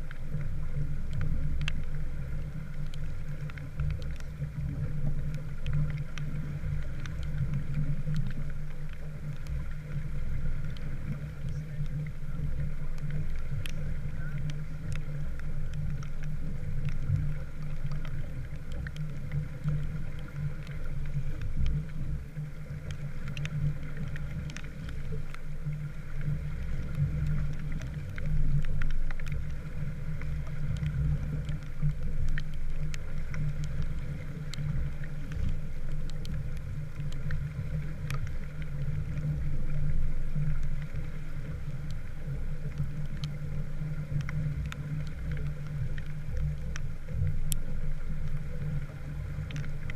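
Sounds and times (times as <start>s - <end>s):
wind and water rumble: 0.0s - 49.9s.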